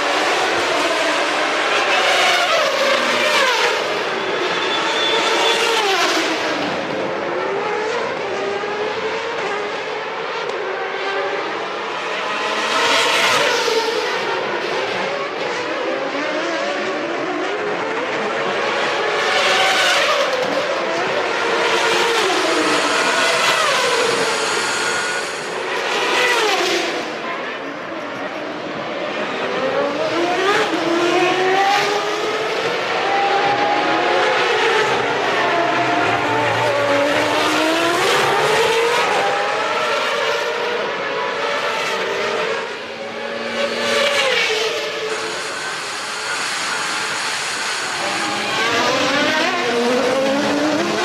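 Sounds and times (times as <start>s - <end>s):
racing car engines passing: 0.0s - 51.0s.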